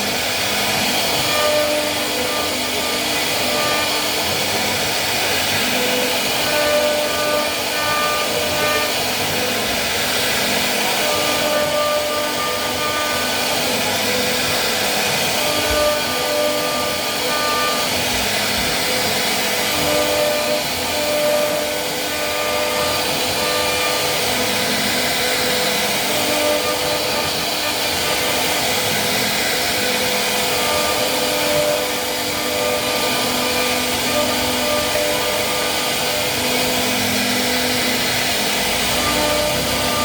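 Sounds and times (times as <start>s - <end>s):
wood router cutting wood: 0.0s - 40.0s.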